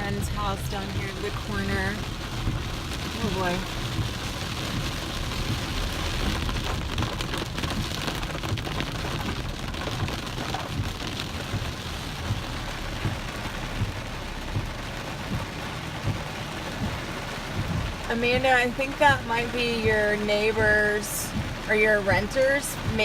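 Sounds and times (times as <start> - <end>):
heavy rain on car roof: 0.0 - 23.0.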